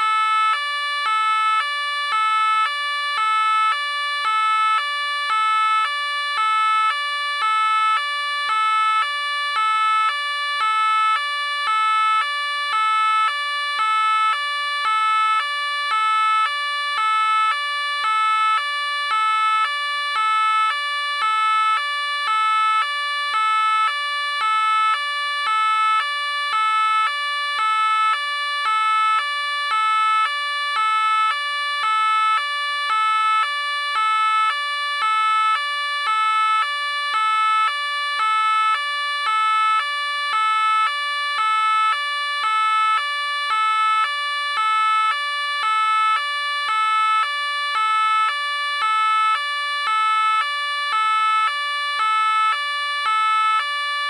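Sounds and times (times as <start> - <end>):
police car two-tone siren: 0.0 - 54.0.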